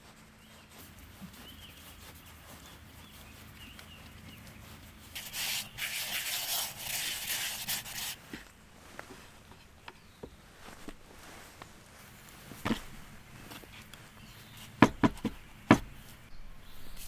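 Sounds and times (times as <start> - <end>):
coarse scraping strokes: 0.0 - 9.8, 10.6 - 17.0.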